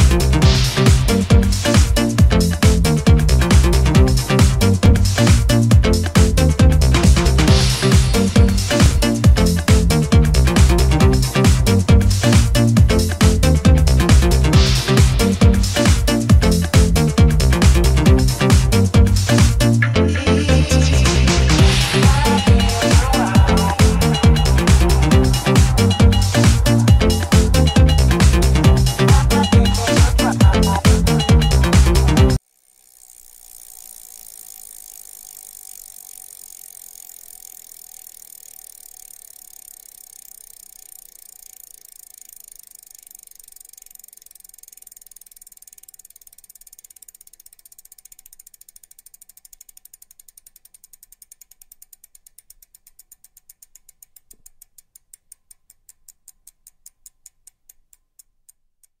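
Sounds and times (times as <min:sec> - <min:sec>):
bicycle freewheel hub ticking: 0:00.0 - 0:59.0.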